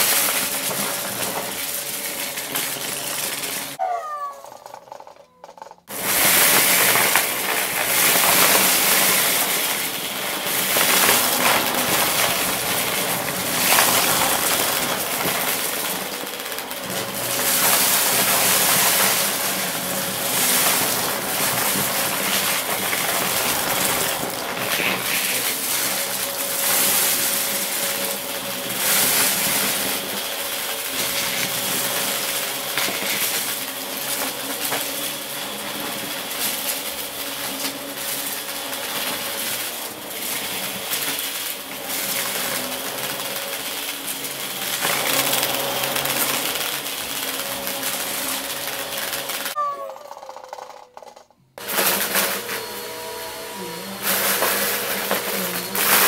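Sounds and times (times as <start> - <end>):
debris rattling up vacuum: 0.0 - 49.6, 50.2 - 56.0
vacuum cleaner motor hum: 0.0 - 56.0.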